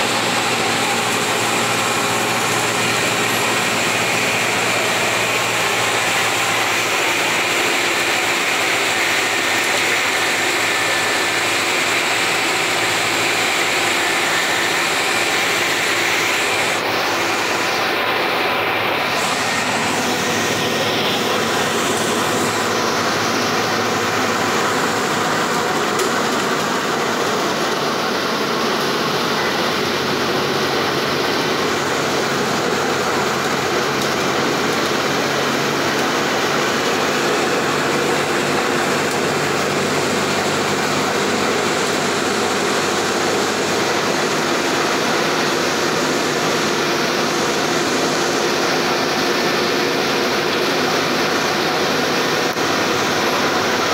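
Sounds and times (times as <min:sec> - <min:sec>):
bus diesel engine drone: 0:00.0 - 0:53.9
tyre hiss on wet road: 0:00.0 - 0:53.9.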